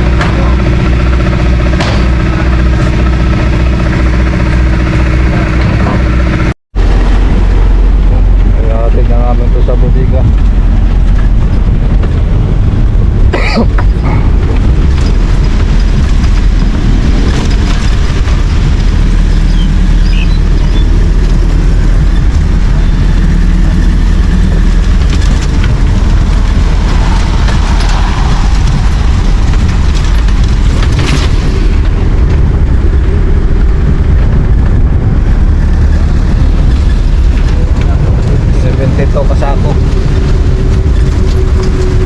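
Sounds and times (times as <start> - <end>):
engine running low rumble: 0.0 - 42.0.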